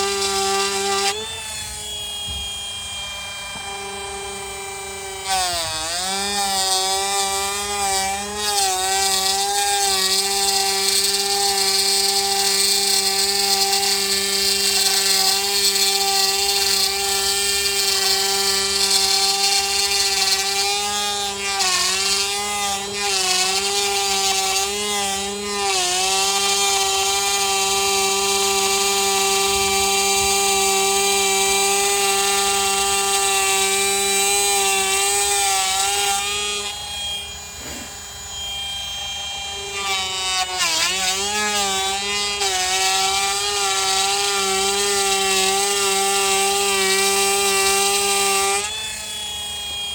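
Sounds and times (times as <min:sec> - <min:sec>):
power tool motor whining: 0:00.0 - 0:49.9.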